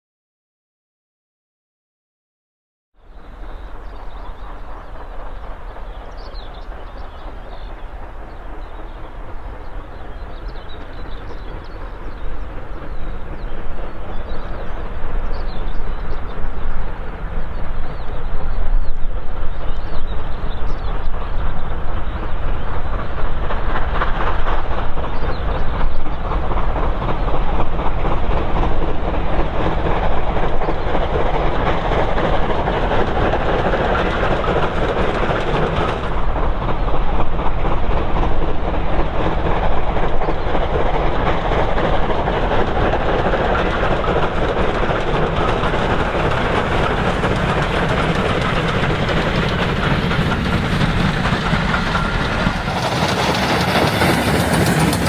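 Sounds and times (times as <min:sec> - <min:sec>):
steam train running: 0:03.0 - 0:55.0.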